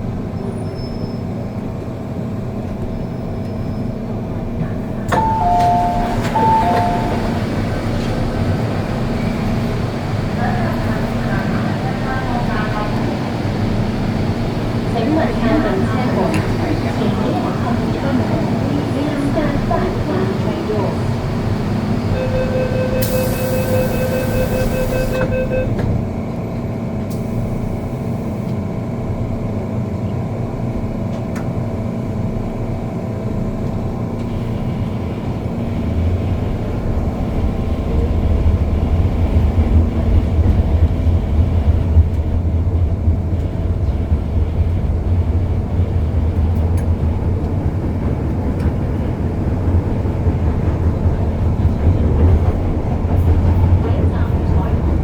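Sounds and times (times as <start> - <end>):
low rumble of moving train: 0.0 - 55.0
train humming: 1.3 - 55.0.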